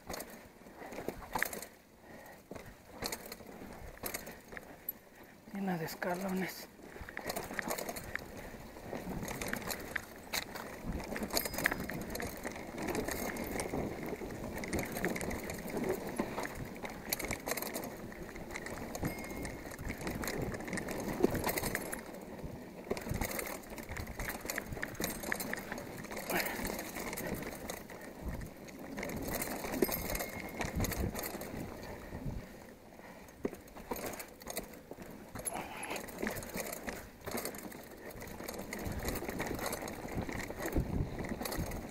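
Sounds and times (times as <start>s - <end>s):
bike frame rattling and knocking: 0.0s - 1.8s, 2.5s - 4.9s, 5.8s - 32.6s, 33.3s - 41.9s
bike tyres rolling on dirt: 0.0s - 41.9s.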